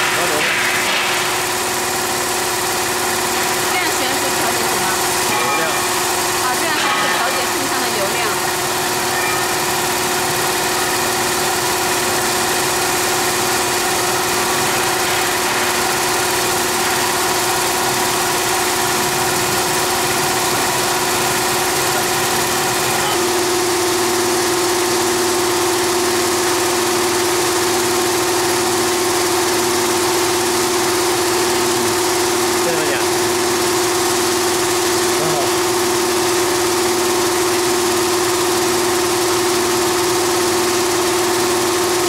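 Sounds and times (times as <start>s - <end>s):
machine humming: 0.0s - 42.0s.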